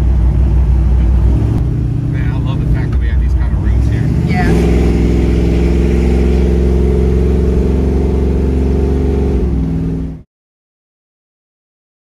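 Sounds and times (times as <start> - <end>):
car engine running from cabin: 0.0 - 10.2.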